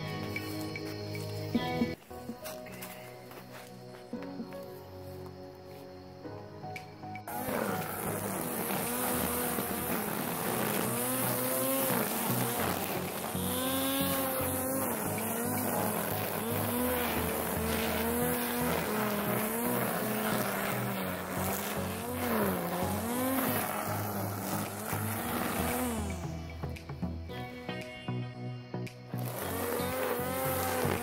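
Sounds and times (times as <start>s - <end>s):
string trimmer cutting grass: 0.0s - 4.6s, 7.3s - 28.0s, 28.8s - 31.0s.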